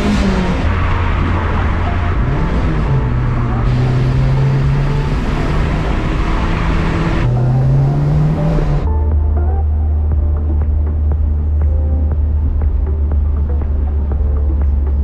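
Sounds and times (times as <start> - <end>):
car engine accelerating: 0.0 - 15.0
road noise: 0.0 - 15.0.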